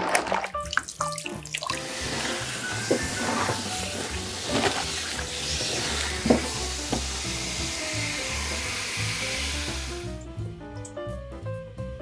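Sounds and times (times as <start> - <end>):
hands squeezing wet leaves: 0.0 - 10.1
tap water running: 0.0 - 10.3
soft background music: 0.0 - 12.0.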